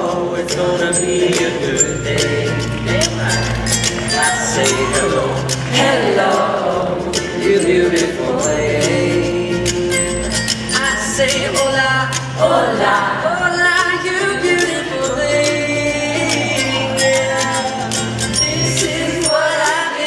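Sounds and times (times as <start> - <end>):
upright bass: 0.0 - 19.6
acoustic guitar: 0.0 - 20.0
several voices singing: 0.0 - 20.0.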